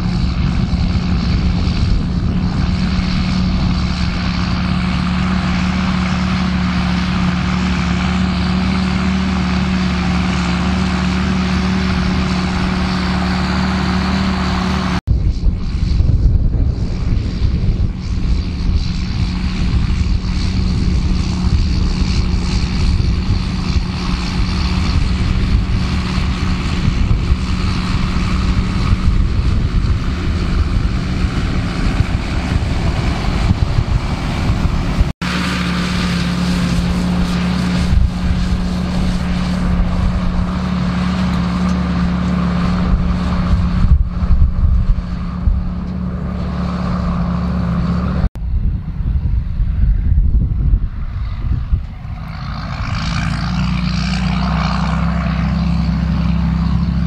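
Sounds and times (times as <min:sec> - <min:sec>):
diesel tractor engine under load: 0:00.0 - 0:57.0.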